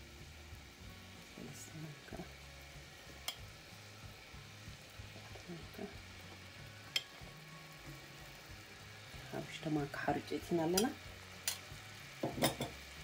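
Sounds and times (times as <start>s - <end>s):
butter sizzling faintly: 0.0s - 13.0s.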